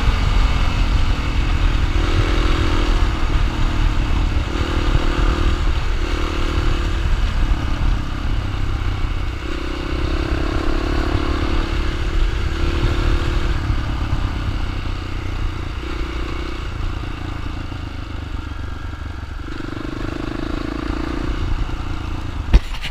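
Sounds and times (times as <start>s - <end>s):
dirt bike engine running: 0.0s - 22.9s.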